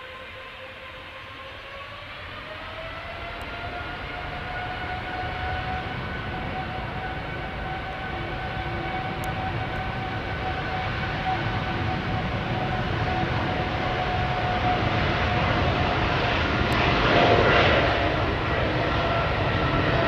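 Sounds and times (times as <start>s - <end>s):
jet engine roar: 0.0s - 20.0s
jet engine whine: 0.0s - 20.0s.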